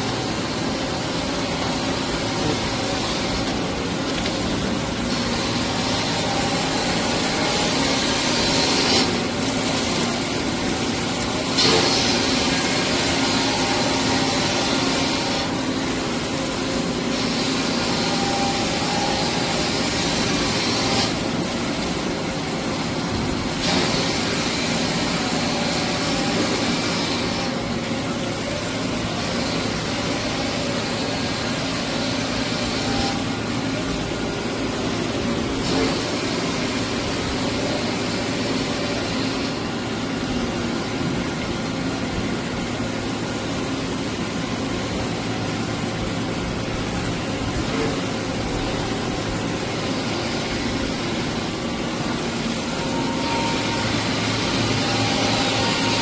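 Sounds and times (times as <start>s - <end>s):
surface grinder machine hum: 0.0s - 56.0s.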